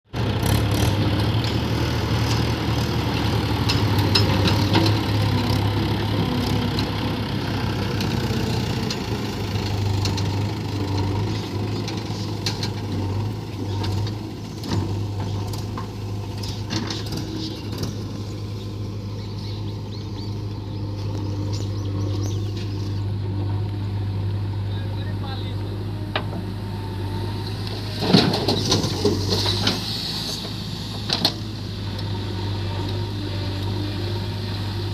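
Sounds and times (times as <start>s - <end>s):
heavy diesel machinery running: 0.1s - 34.9s.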